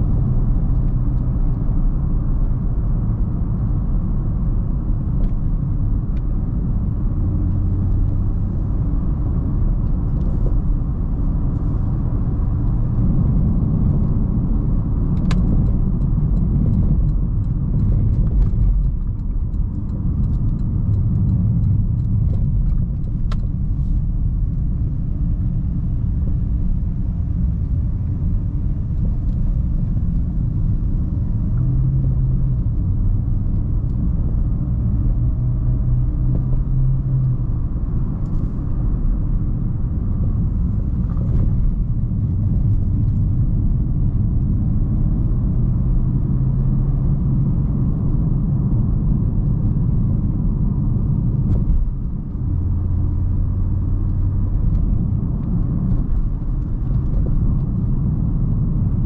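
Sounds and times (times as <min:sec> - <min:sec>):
car engine low rumble: 0:00.0 - 0:59.0
road noise: 0:00.0 - 0:59.0.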